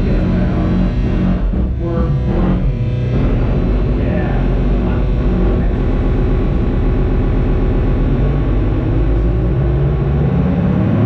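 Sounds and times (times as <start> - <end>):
experimental electronic noise: 0.0 - 11.0.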